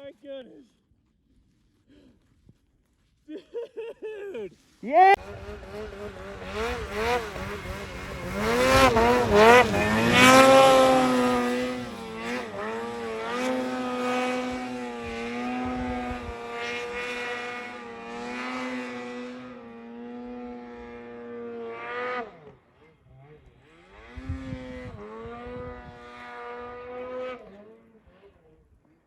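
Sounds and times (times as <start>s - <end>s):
snowmobile engine revving: 4.6s - 29.0s.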